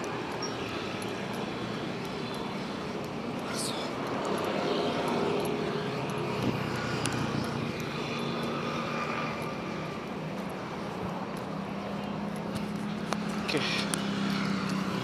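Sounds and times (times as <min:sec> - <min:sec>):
engine hum: 0:00.0 - 0:15.0
passing cars and motorcycles: 0:00.0 - 0:15.0.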